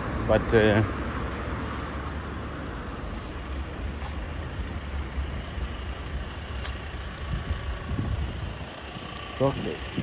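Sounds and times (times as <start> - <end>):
tyres on wet road: 0.0 - 10.0
vehicle engines rumbling: 0.0 - 10.0.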